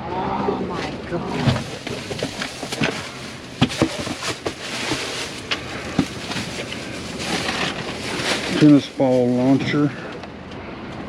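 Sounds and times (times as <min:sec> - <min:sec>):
rustling of items: 0:01.2 - 0:10.2.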